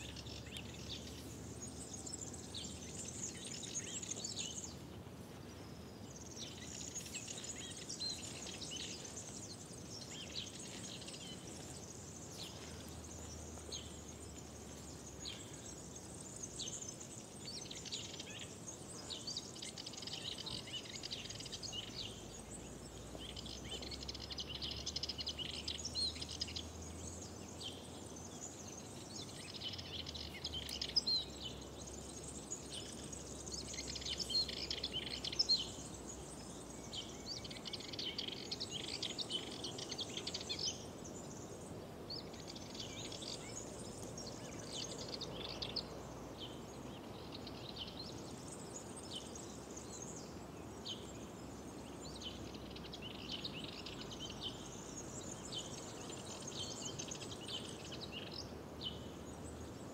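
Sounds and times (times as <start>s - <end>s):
faint low background noise: 0.0s - 59.9s
songbirds singing and chirping: 0.0s - 59.9s.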